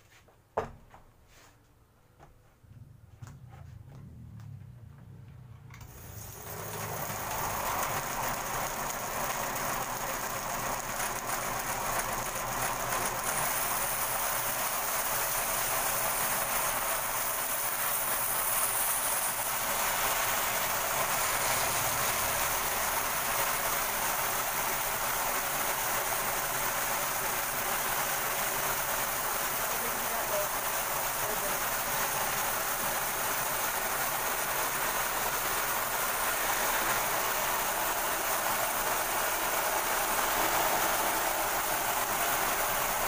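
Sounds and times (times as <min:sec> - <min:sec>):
bandsaw cutting wood: 0:06.2 - 0:43.0.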